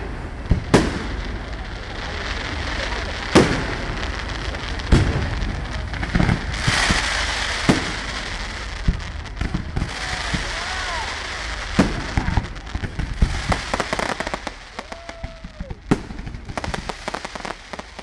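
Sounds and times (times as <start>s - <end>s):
fireworks bursting with bangs: 0.0s - 18.0s
fireworks crackling hiss: 0.0s - 18.0s.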